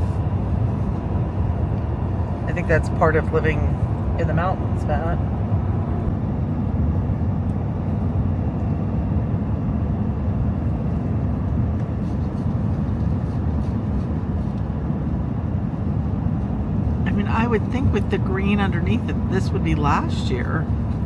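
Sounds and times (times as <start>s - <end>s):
road and drivetrain rumble: 0.0s - 21.0s.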